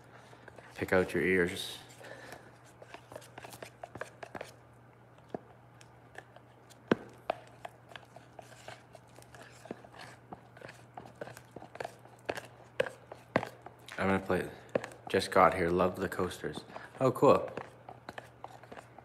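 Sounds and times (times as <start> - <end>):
stir stick scraping plastic container: 0.0 - 4.6, 6.1 - 19.0.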